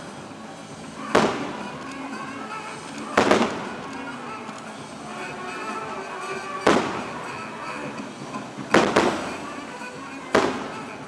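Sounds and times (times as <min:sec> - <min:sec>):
fireworks bangs with echo: 0:00.0 - 0:11.0
show music: 0:00.0 - 0:11.0.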